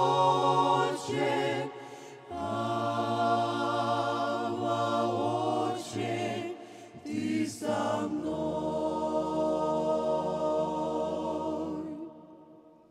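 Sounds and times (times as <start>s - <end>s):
group singing in harmony: 0.0s - 12.9s.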